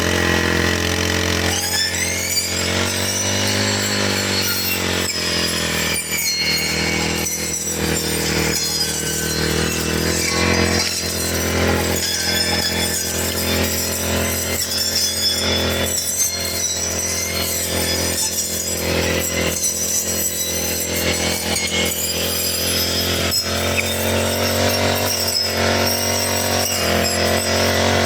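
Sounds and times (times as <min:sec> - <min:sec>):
brush cutter engine running: 0:00.0 - 0:28.0.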